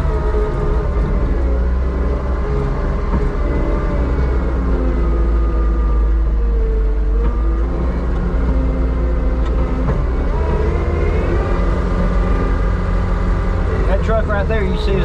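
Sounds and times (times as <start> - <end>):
heavy machinery rumbling: 0.0 - 15.0.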